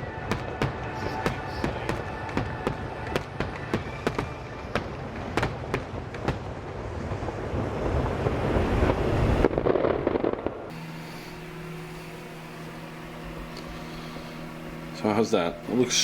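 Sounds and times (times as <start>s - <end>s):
fireworks popping and crackling: 0.0s - 14.9s
steady low hum: 0.0s - 16.0s.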